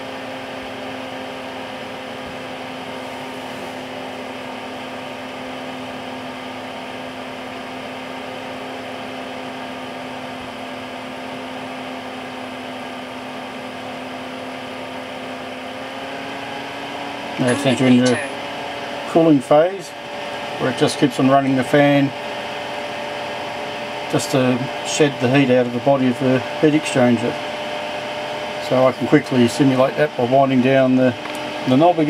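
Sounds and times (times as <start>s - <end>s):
blower fan humming: 0.0s - 32.0s.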